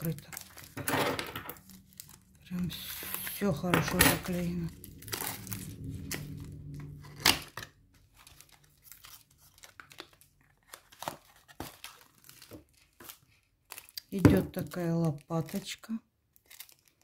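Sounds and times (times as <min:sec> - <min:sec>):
paper and plastic wrap crinkling: 0:00.0 - 0:17.0.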